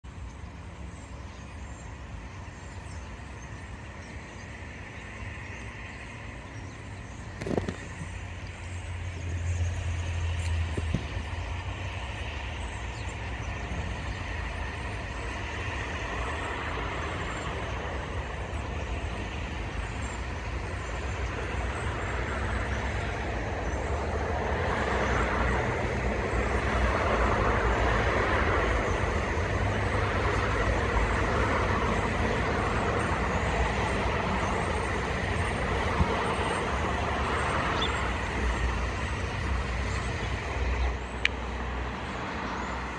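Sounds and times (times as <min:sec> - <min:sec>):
road traffic rumble and hiss: 0:00.0 - 0:42.9.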